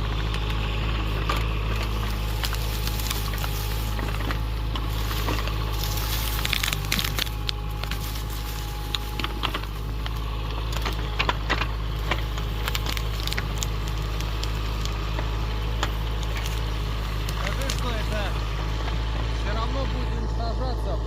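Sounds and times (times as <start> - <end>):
twigs and wood breaking: 0.0 - 19.1
engine running: 0.0 - 21.0.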